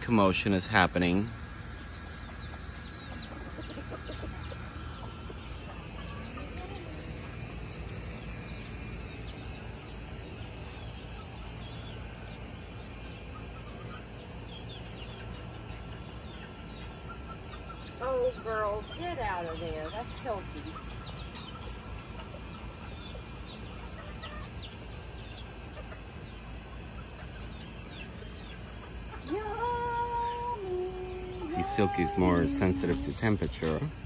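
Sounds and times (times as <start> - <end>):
chickens clucking and chirping: 0.0 - 34.0
steady low hum: 0.0 - 34.0.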